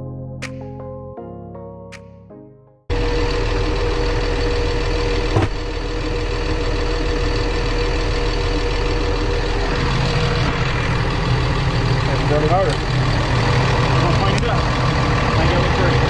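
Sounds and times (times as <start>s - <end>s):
deep hum: 2.9s - 16.0s
engine idling: 2.9s - 16.0s.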